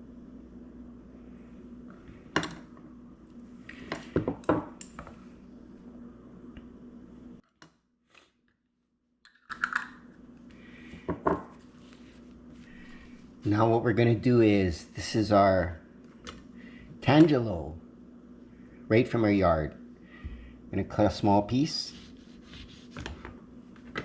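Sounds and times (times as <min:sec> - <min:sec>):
steady low hum: 0:00.0 - 0:07.4, 0:09.9 - 0:24.0.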